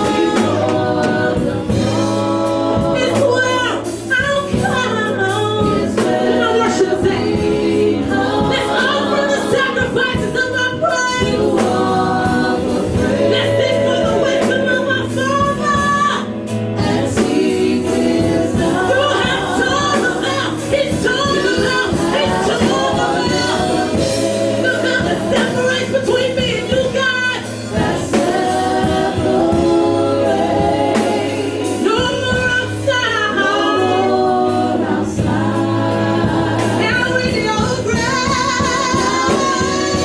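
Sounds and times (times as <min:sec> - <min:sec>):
band with steady bass line: 0:00.0 - 0:40.0
voices singing gospel: 0:00.0 - 0:40.0.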